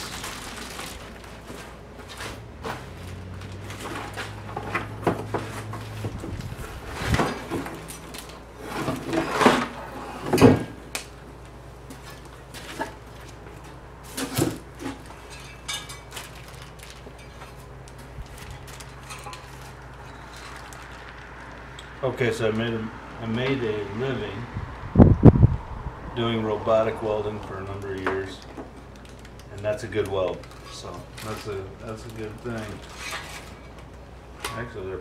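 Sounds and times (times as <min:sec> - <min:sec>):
cardboard and plastic rustling: 0:00.0 - 0:21.8, 0:27.5 - 0:34.0.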